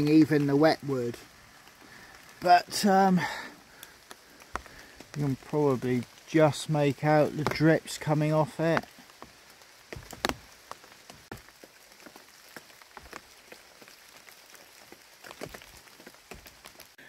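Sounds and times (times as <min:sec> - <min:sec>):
faint rain patter: 0:00.0 - 0:17.0.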